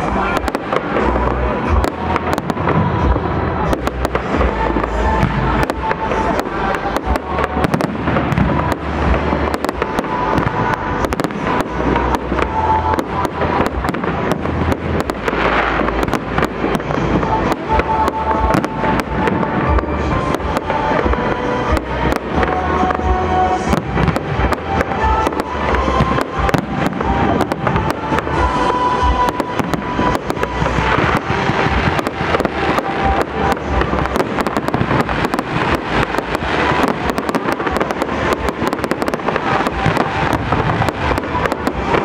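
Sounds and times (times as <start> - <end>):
fireworks bangs and crackles: 0.0 - 42.0
music playing: 0.0 - 42.0.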